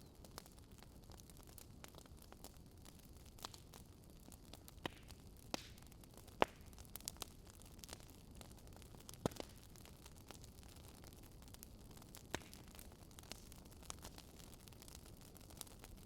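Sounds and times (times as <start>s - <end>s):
burning logs crackling: 0.0s - 16.0s.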